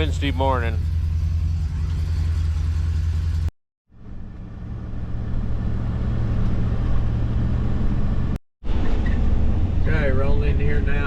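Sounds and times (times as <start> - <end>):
vehicle engine and road drone: 0.0 - 11.0.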